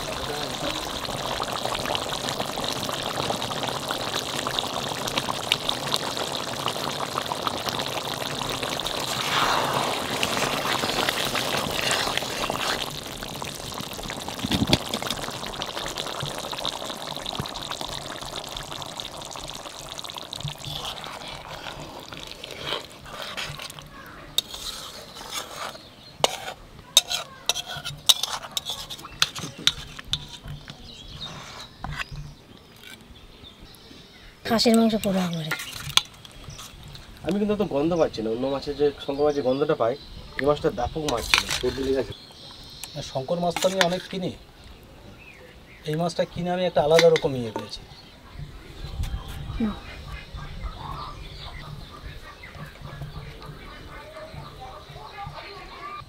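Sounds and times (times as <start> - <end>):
curry sizzling in a pot: 0.0 - 33.0, 33.6 - 48.2.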